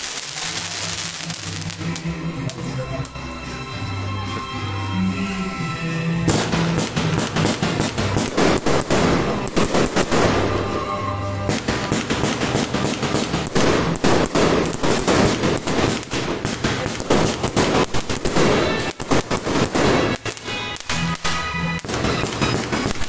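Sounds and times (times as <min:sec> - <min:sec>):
fireworks bangs and crackle: 0:00.0 - 0:03.2, 0:06.2 - 0:23.0
music playing: 0:00.0 - 0:23.0.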